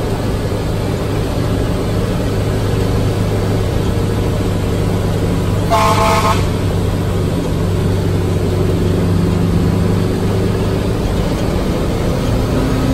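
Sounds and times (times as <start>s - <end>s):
truck engine drone from cab: 0.0s - 12.9s.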